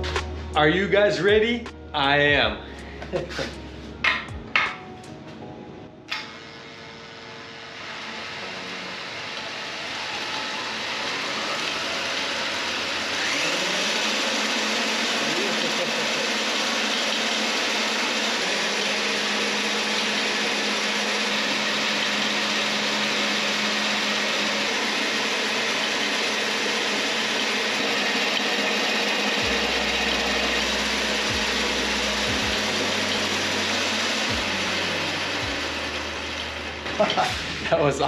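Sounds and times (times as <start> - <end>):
small engine running: 6.1 - 37.6.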